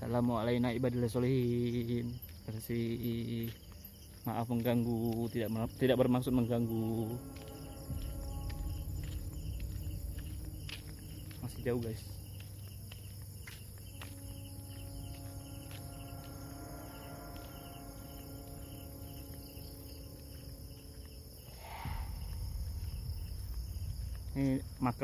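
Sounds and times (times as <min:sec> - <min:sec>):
crickets chirping: 0:00.0 - 0:25.0
high insect drone: 0:00.0 - 0:25.0.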